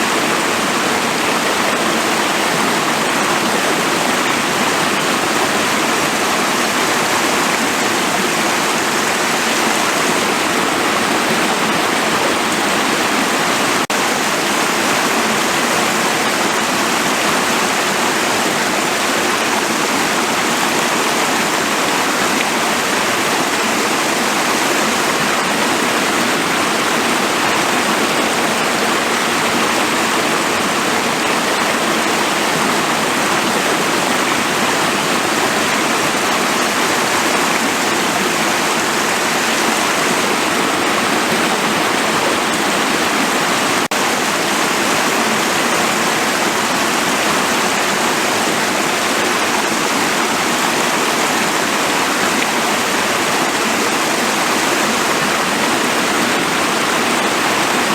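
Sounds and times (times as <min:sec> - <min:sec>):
stream rushing over stones: 0:00.0 - 0:57.9.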